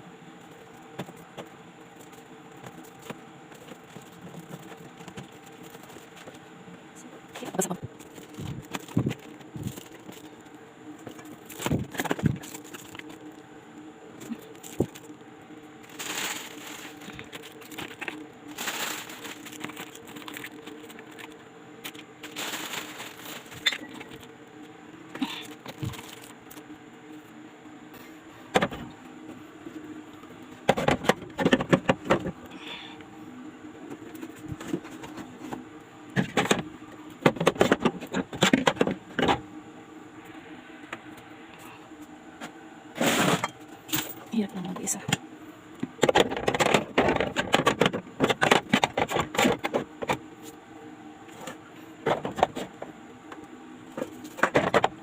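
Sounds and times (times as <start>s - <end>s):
refrigerator hum: 0.0s - 55.0s.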